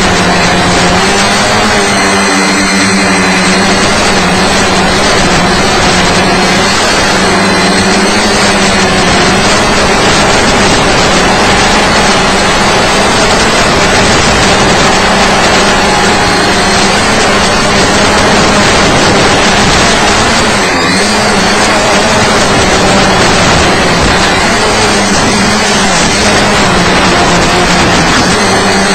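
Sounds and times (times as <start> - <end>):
drone motors and propellers buzzing: 0.0 - 28.9.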